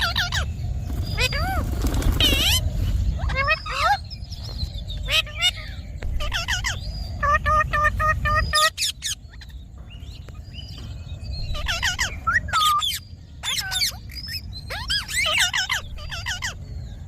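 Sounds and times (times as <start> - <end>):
parakeet calling: 0.0 - 10.8, 11.4 - 17.0.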